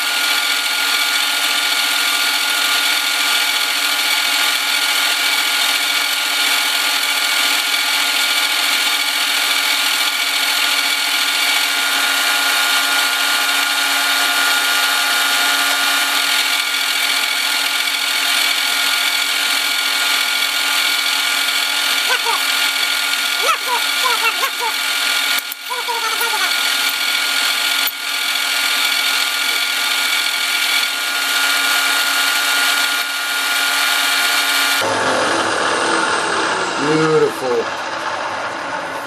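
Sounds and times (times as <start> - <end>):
milling machine cutting metal: 0.0 - 39.0.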